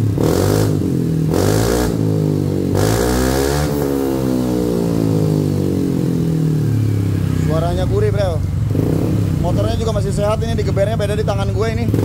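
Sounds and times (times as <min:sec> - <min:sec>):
scooter engine revving and idling: 0:00.0 - 0:12.0.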